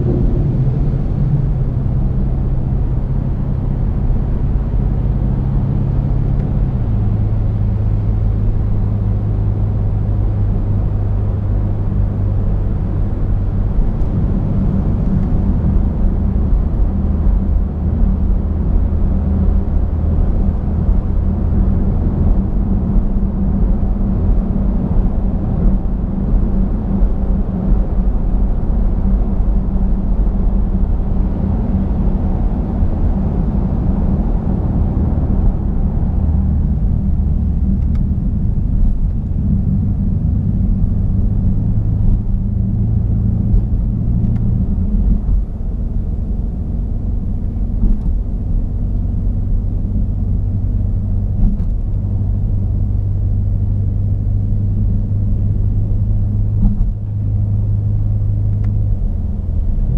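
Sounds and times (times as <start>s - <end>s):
car engine drone from cabin: 0.0s - 59.9s
road noise: 0.0s - 59.9s.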